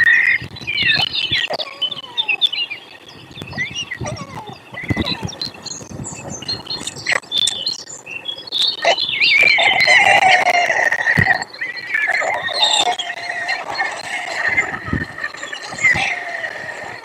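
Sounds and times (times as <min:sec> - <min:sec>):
stork chicks begging calls: 0:00.0 - 0:17.0.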